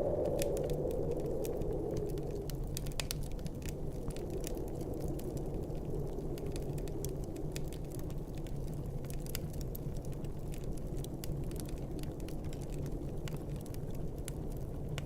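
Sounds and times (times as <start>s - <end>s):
low rumble of storm wind: 0.0s - 15.0s
wood fire crackling: 0.0s - 15.0s.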